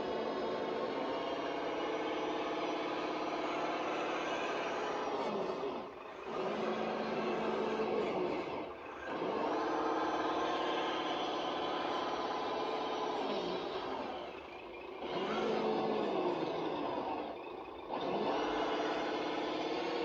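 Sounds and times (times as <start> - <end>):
electric motor and gearbox whining: 0.0 - 20.0.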